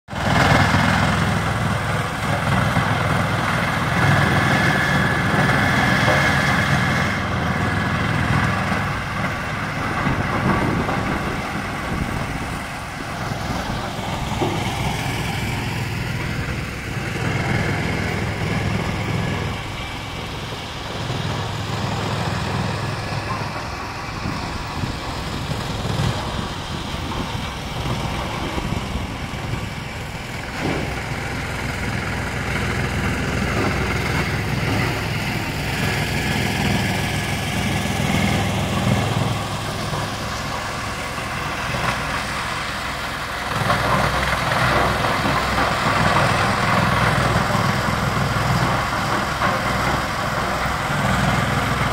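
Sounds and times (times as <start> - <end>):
wood chipper humming: 0.1 - 51.9.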